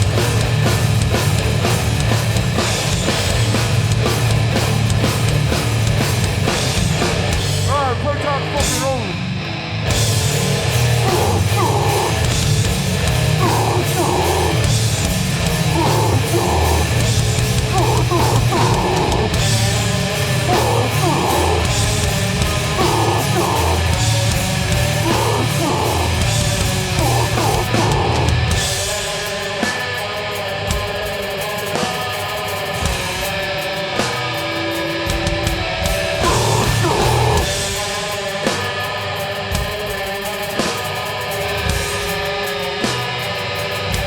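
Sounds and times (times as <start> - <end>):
distorted electric guitars: 0.0 - 44.0
pounding drum kit: 0.0 - 44.0.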